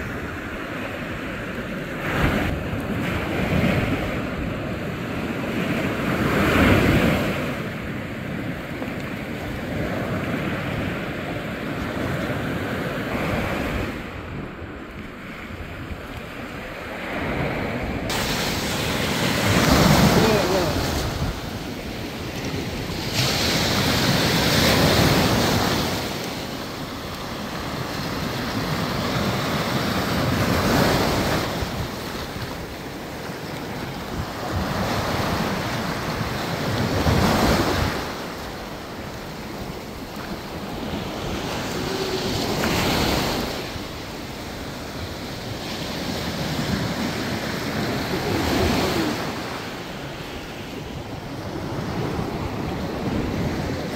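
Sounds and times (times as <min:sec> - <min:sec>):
rough sea waves surging: 0:00.0 - 0:53.9
wind buffeting microphone: 0:00.0 - 0:53.9.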